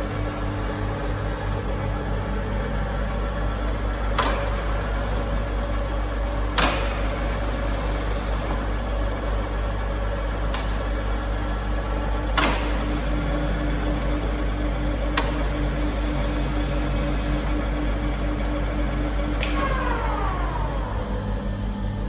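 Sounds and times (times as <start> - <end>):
lathe motor humming: 0.0 - 22.0.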